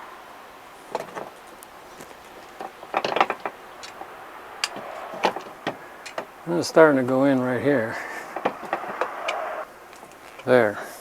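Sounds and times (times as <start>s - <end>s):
rubber tire forced onto rim: 0.0s - 10.6s.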